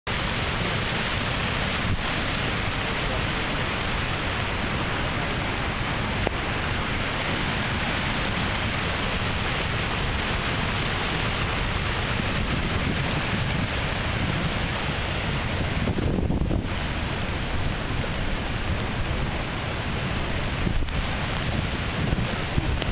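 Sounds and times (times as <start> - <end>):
floodwater rushing: 0.1 - 22.9.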